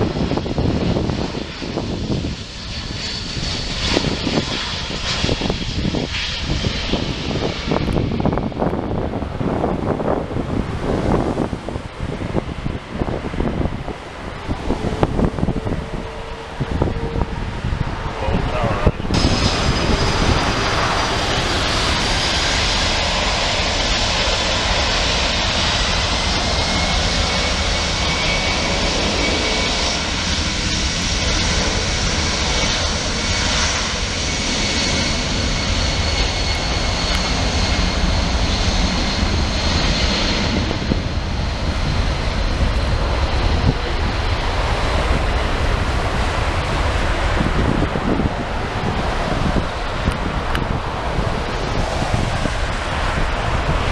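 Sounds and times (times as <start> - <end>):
jet airliner passing: 0.0 - 53.9.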